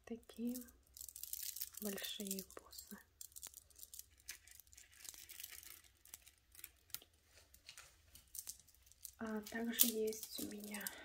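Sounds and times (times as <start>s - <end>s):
bead necklaces clicking and rustling: 0.0s - 11.0s.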